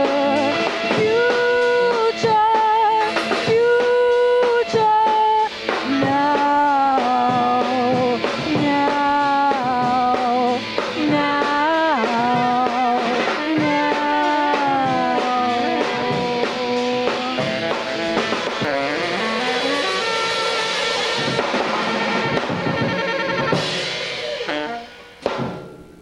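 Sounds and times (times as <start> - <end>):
saxophone melody: 0.0 - 25.2
rock band playing: 0.0 - 26.0.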